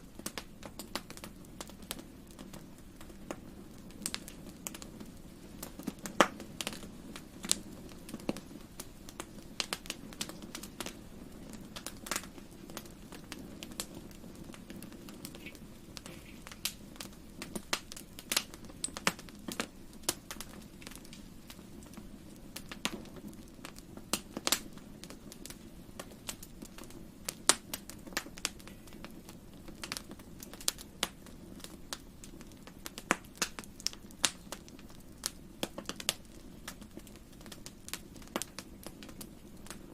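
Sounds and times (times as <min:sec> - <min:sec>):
low rush of flames: 0:00.0 - 0:39.9
wood fire crackling: 0:00.0 - 0:39.9.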